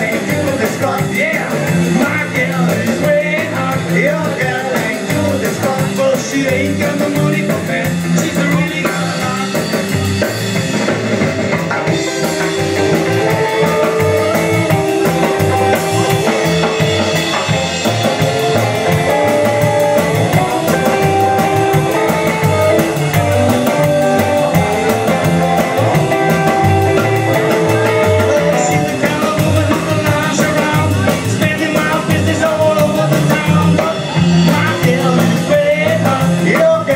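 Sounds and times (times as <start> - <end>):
drum kit steady beat: 0.0 - 36.9
guitar melody: 6.9 - 36.8.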